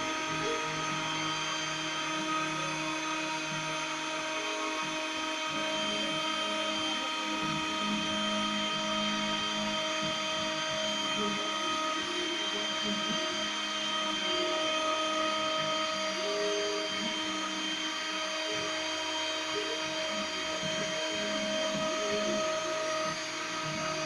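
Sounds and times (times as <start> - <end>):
low motor tones: 0.0 - 24.0
milling spindle whine: 0.0 - 24.0.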